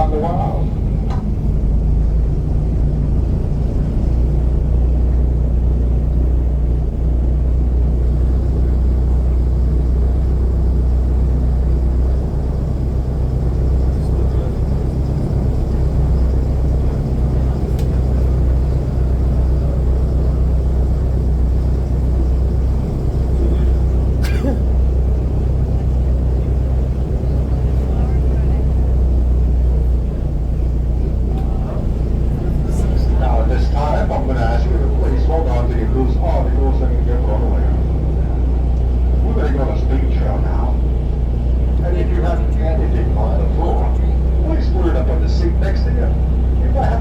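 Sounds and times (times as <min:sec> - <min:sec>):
airboat engine and propeller drone: 0:00.0 - 0:47.0.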